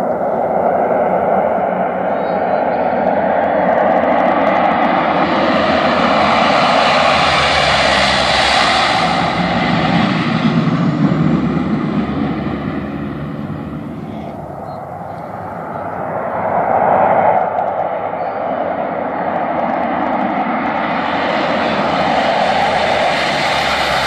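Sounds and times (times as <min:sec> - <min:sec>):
propeller plane engines droning: 0:00.0 - 0:24.0.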